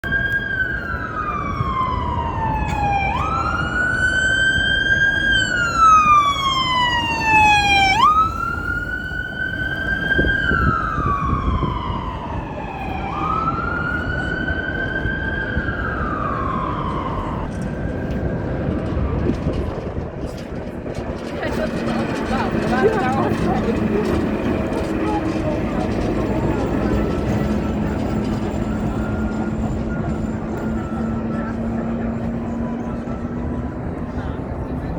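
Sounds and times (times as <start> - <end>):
ambulance siren wailing: 0.0 - 34.9
city traffic rumble: 0.0 - 34.9.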